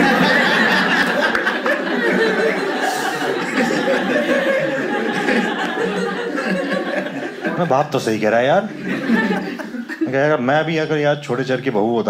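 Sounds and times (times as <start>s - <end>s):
crowd laughing: 0.0s - 10.5s.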